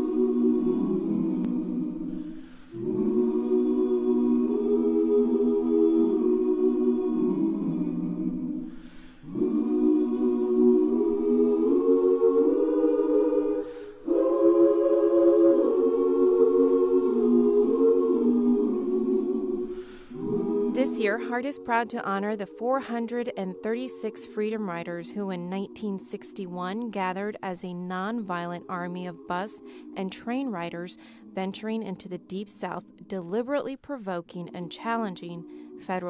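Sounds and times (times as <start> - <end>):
choir singing unaccompanied: 0.0 - 33.4, 34.4 - 36.0.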